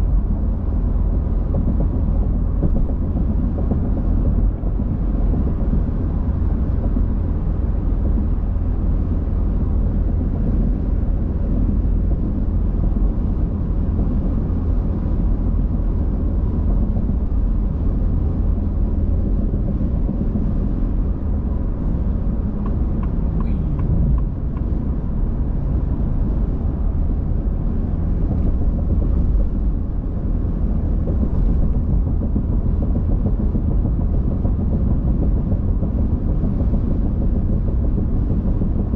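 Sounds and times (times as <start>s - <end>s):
car driving at speed: 0.0s - 38.9s.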